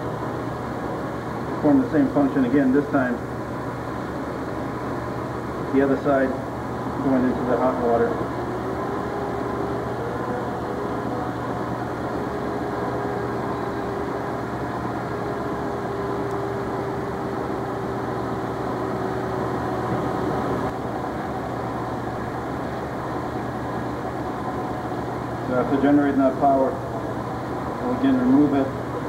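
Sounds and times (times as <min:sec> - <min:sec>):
faint wavering whine: 0:00.0 - 0:29.0
turbine generator humming: 0:00.0 - 0:29.0.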